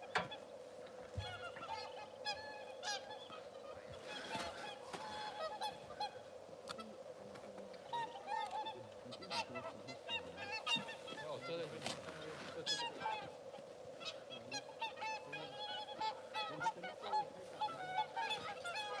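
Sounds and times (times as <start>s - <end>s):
swans honking: 0.0s - 19.0s.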